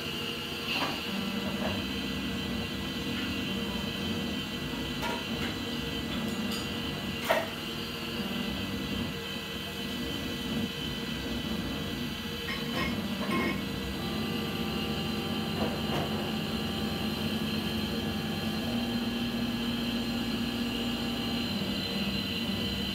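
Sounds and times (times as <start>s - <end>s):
laser engraver fan whirring: 0.0s - 22.9s
laser head motor whines: 0.0s - 22.9s.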